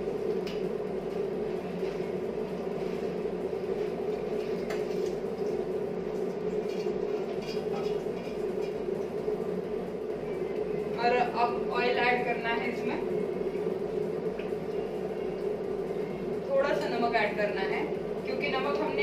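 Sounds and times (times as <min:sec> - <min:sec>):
steady kitchen hum: 0:00.0 - 0:19.0.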